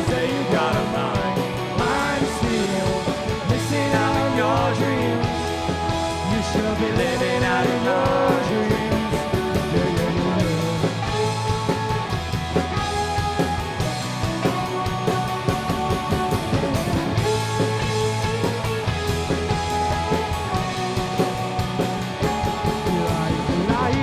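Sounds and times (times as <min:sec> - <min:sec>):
pop-rock band playing: 0:00.0 - 0:24.0.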